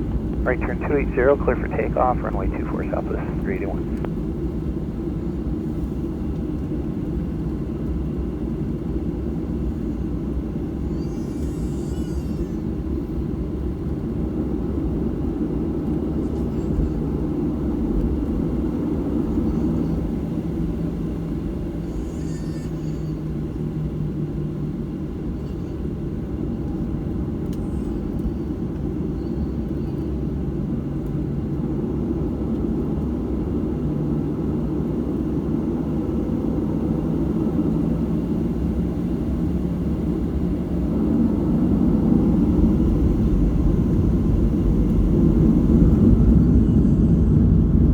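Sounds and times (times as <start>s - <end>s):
jet engines low rumble in cabin: 0.0s - 47.9s.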